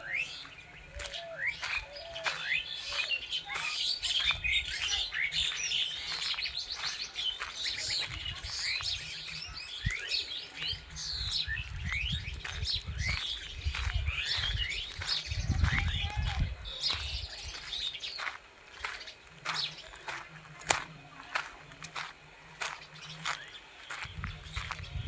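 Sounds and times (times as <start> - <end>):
forest birds chirping: 0.0 - 25.0.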